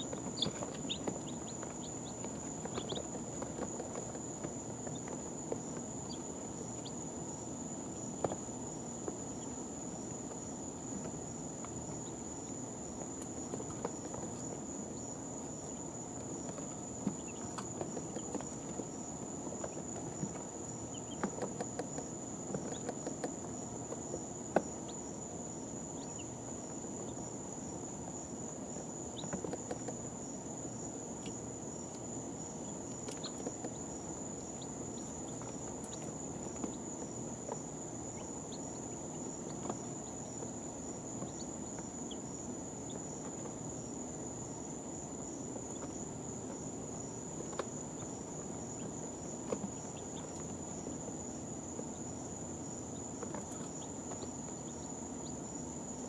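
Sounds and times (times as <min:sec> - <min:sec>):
chicks tapping and pecking: 0:00.0 - 0:56.0.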